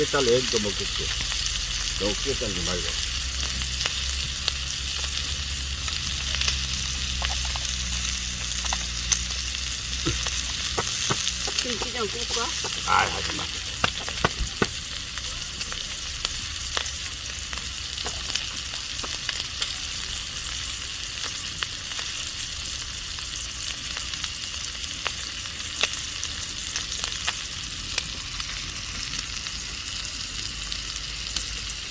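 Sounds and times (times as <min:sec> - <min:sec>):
food sizzling in hot oil: 0:00.0 - 0:31.9
oil popping and crackling: 0:00.0 - 0:31.9.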